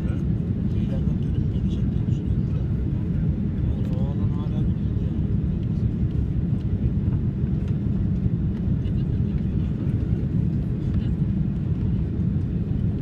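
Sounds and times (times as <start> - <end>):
jet engine and airflow rumble: 0.0 - 13.0.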